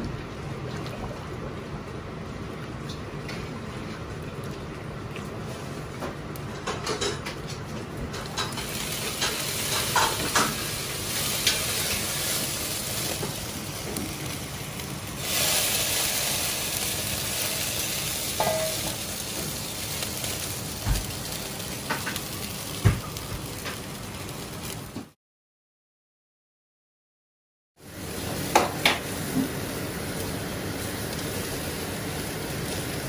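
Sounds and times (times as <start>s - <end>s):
stock boiling and bubbling: 0.0s - 25.2s, 27.8s - 33.0s.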